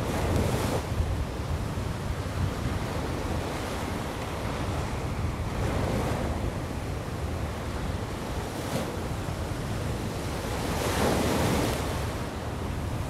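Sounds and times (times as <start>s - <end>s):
sea surf washing onto beach: 0.0s - 13.0s
wind rumbling on microphone: 0.0s - 13.0s.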